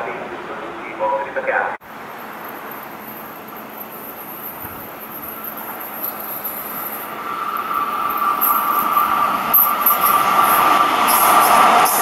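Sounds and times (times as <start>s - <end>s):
electric locomotive rail noise: 0.0s - 12.0s.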